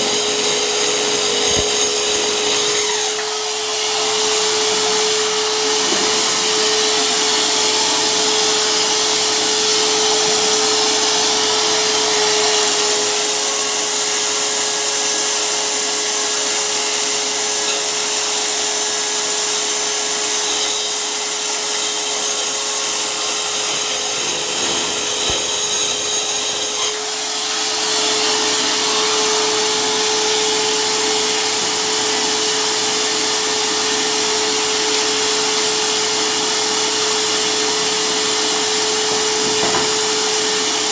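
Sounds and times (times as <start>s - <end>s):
saw motor whining: 0.0s - 40.9s.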